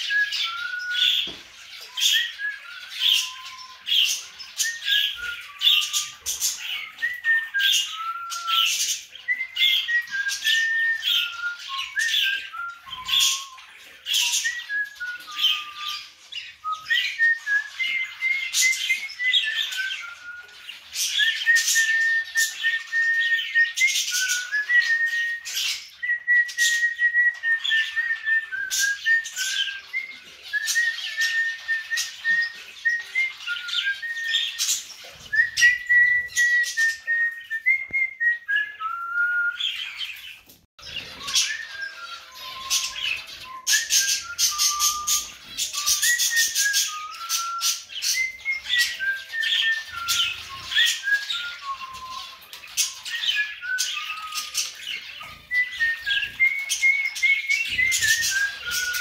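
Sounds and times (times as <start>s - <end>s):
pet birds chirping: 0.0s - 37.8s, 38.7s - 59.0s
slow whistled tune: 0.0s - 59.0s.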